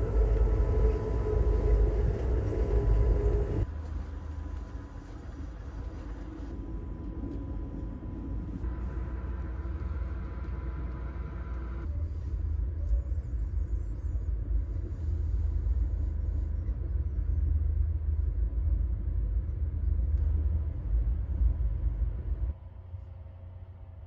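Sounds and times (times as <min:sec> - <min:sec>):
train rumbling inside car: 0:00.0 - 0:24.0.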